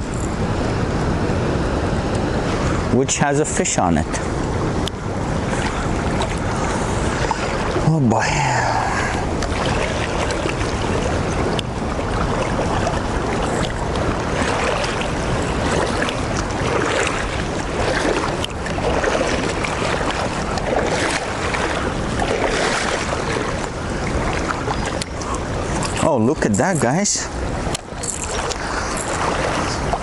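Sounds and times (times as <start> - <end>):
river current rushing: 0.0 - 30.0
wind buffeting microphone: 0.0 - 30.0.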